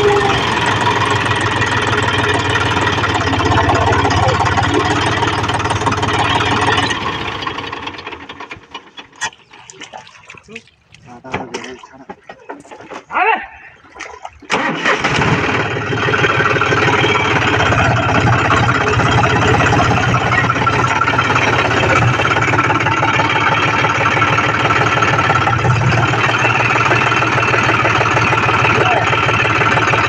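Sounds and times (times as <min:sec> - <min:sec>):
tractor diesel engine starting: 0:00.0 - 0:09.5, 0:14.5 - 0:30.0.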